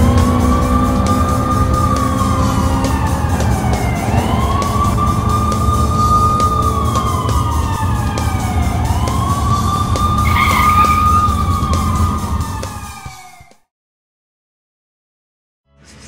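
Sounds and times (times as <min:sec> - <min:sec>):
police siren wailing: 0:00.0 - 0:13.6.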